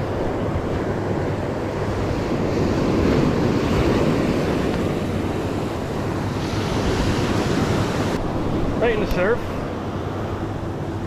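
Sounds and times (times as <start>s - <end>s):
ocean surf washing ashore: 0.0s - 11.0s
wind buffeting microphone: 0.0s - 11.0s.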